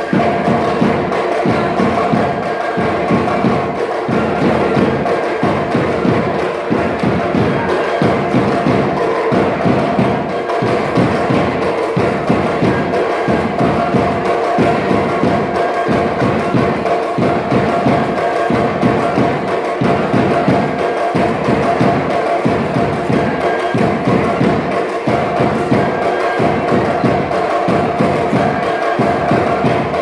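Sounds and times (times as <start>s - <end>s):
drum beats: 0.0s - 30.0s.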